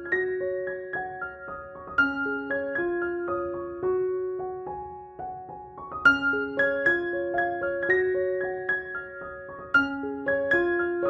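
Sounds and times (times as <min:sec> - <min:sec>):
piano broken chords: 0:00.0 - 0:11.0.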